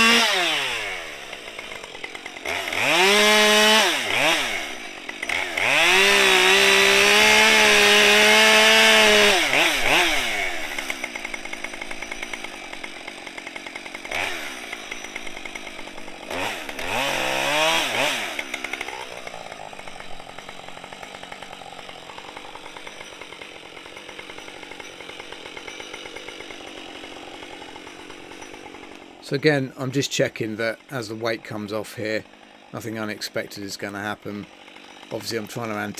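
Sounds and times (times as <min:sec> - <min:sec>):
chainsaw revving and idling: 0:00.0 - 0:35.9.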